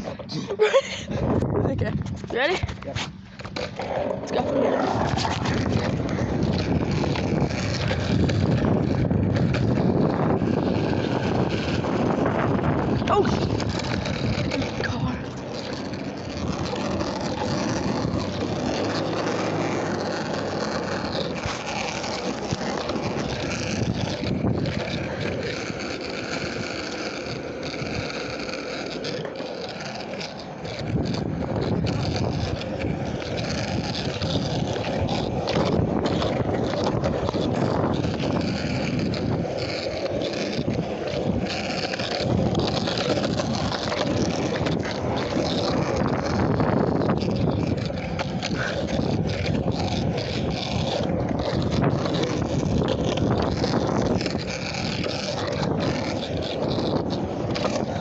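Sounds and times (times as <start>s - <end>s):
skateboard wheels rolling on pavement: 0.0s - 58.0s.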